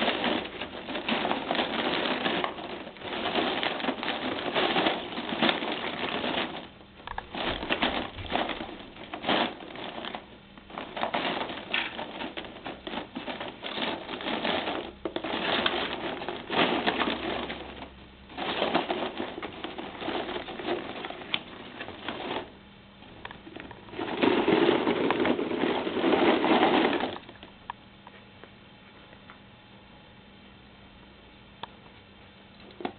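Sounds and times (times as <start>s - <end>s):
rustling: 0.0s - 28.3s.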